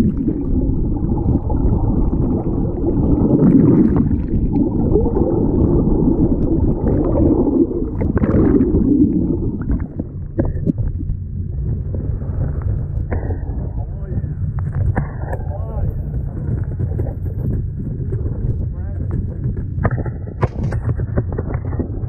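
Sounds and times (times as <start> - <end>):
muffled underwater rumbling and gurgling: 0.0 - 22.0.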